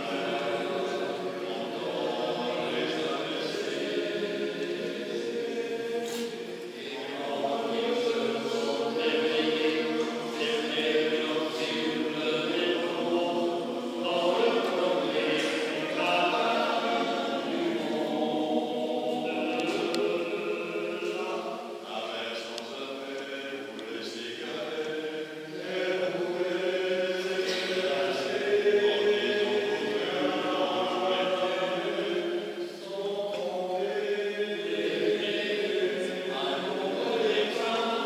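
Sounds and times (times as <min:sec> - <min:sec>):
men's choir singing: 0:00.0 - 0:38.0.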